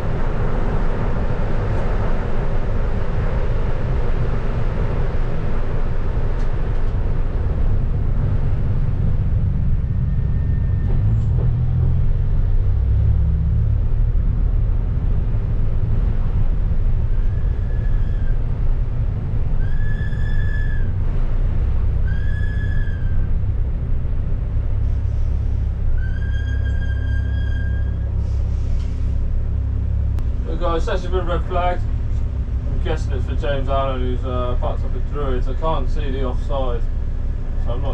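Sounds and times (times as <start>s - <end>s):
car engine low rumble: 0.0s - 37.9s.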